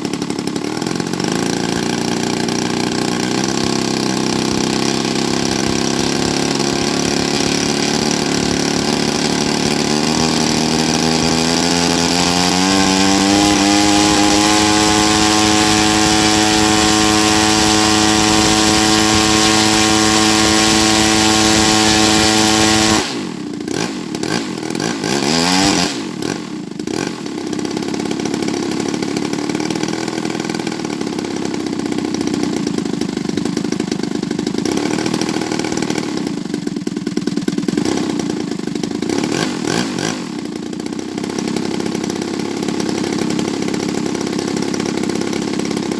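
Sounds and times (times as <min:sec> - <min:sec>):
model airplane engine running: 0:00.0 - 0:45.9.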